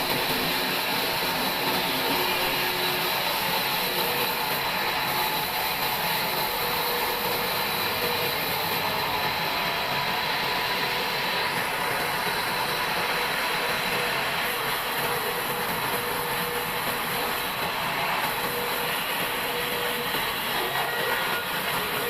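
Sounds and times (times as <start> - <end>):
bandsaw running: 0.0 - 22.0.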